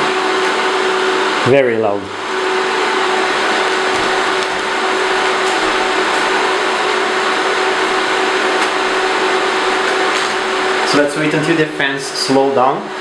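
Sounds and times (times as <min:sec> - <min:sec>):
cooling fans running loudly: 0:00.0 - 0:13.0.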